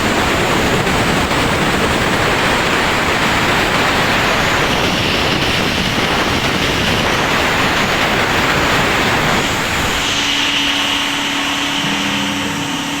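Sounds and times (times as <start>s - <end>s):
cnc machine rushing noise: 0.0s - 13.0s
steady humming tones: 0.0s - 13.0s.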